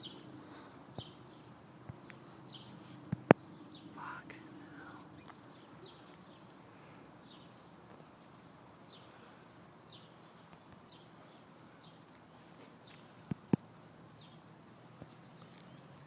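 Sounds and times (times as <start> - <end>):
low background hiss: 0.0 - 16.0.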